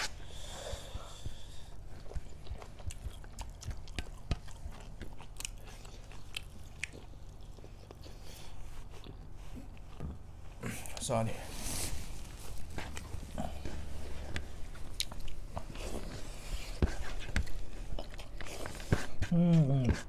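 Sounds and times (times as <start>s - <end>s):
person chewing food: 0.0s - 11.0s, 11.9s - 20.0s.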